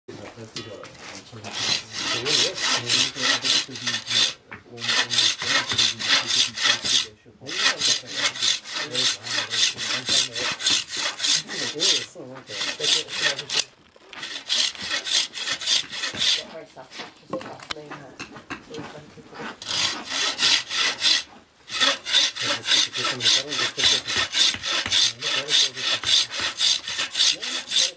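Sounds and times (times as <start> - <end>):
bow saw cutting wood: 1.0 - 17.1, 19.3 - 27.9.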